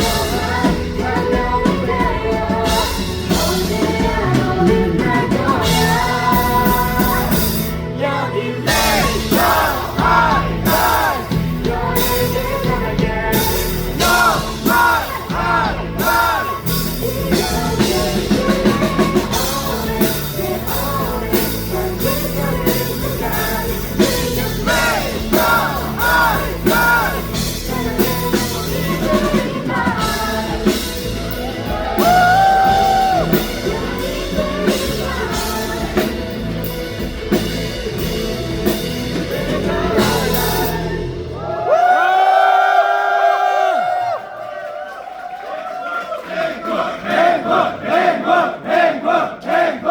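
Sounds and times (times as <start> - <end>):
woman singing lead vocals: 0.0 - 41.7
live rock band playing: 0.0 - 41.8.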